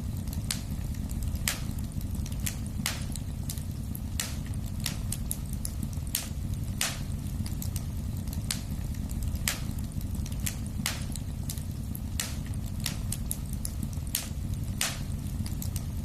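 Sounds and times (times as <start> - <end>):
sharp pops of fire: 0.0 - 16.0
wood fire crackling: 0.0 - 16.0.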